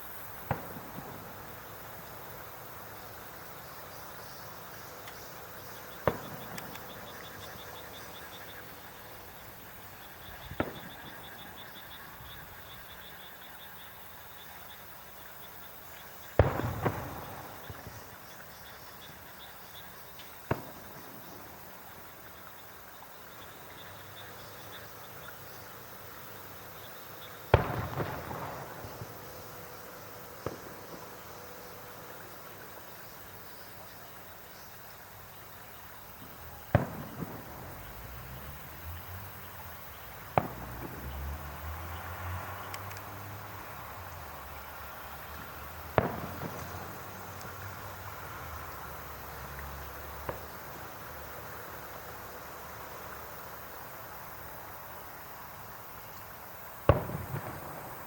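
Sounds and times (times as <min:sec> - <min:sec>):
fireworks bursting: 0:00.0 - 0:13.2, 0:15.9 - 0:22.4, 0:23.4 - 0:33.3, 0:36.1 - 0:53.2, 0:56.6 - 0:58.0
fireworks crackling: 0:00.0 - 0:13.4, 0:15.5 - 0:58.0
faint insect chirping: 0:00.0 - 0:58.0.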